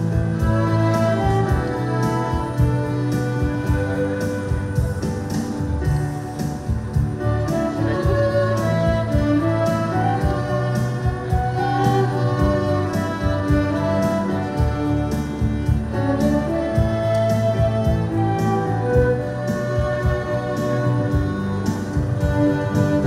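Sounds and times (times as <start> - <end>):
electric bass guitar: 0.0 - 23.0
keyboard: 0.0 - 23.0
violins: 0.0 - 23.0.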